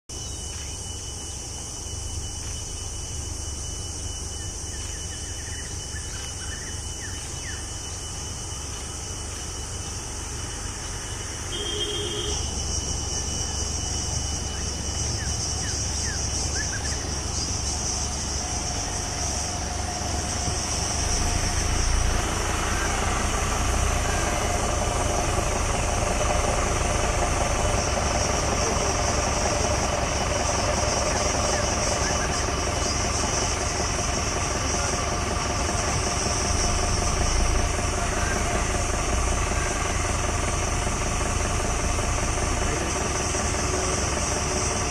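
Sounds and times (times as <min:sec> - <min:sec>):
high insect buzz: 0:00.1 - 0:44.9
motorcycle engine idling: 0:00.1 - 0:44.9.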